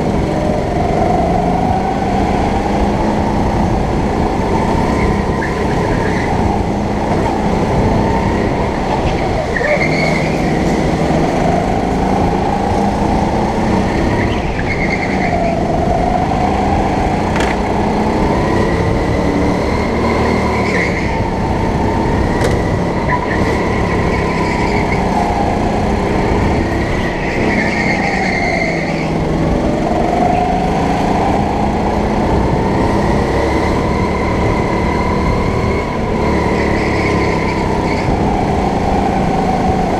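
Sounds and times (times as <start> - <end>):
go-kart motor racing: 0.0 - 39.9.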